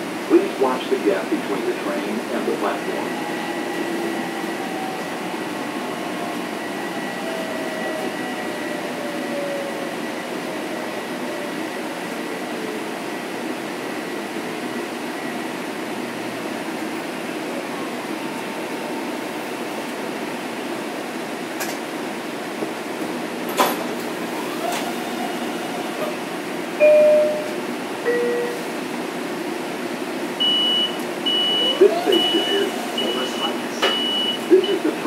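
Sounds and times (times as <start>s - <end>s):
train car rolling rumble: 0.0s - 35.0s.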